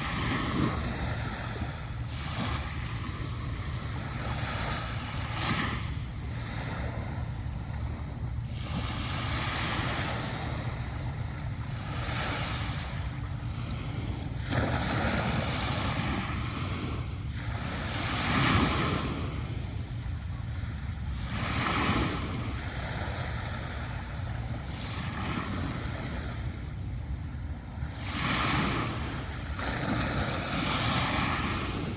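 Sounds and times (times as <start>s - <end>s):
sea waves breaking on beach: 0.0s - 31.9s.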